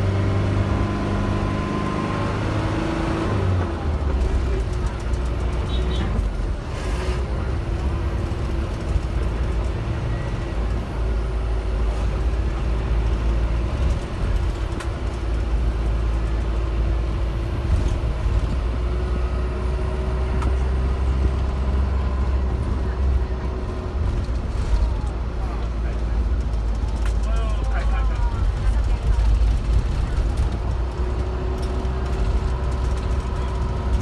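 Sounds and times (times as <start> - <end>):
bus engine and tyre rumble: 0.0 - 34.0.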